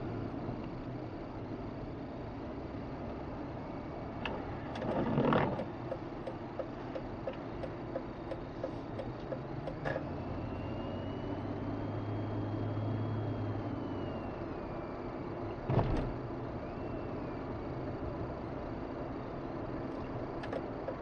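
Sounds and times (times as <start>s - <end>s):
road and engine noise inside car: 0.0s - 21.0s.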